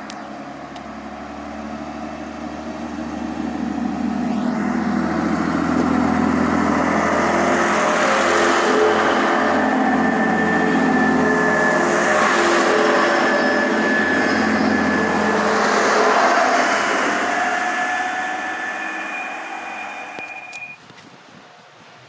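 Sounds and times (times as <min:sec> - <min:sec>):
passenger train rumbling past: 0:00.0 - 0:20.8.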